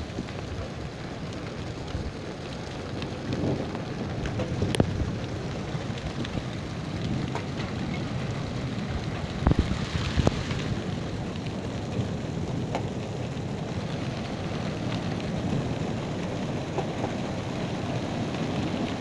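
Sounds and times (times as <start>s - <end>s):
hail and rain hissing: 0.0s - 19.0s
hailstones ticking on concrete: 0.0s - 19.0s.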